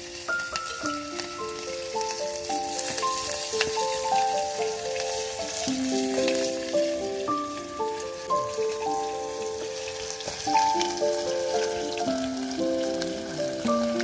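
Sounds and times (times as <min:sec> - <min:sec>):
meat sizzling in a pan: 0:00.0 - 0:14.0
slow background music: 0:00.0 - 0:14.0.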